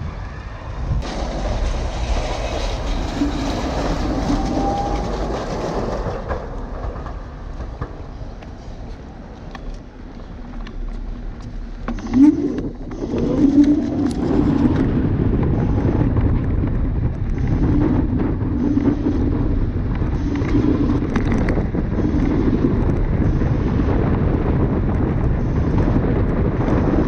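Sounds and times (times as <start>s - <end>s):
electric scooter rolling rumble: 0.0s - 27.0s
wind buffeting microphone: 0.0s - 27.0s.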